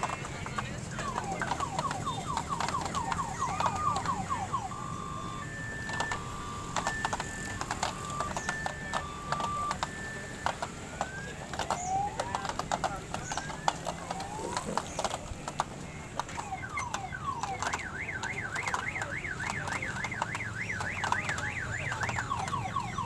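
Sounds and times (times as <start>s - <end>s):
sharp clicks: 0.0s - 23.0s
electronic siren cycling tones: 0.6s - 15.1s, 16.3s - 23.0s.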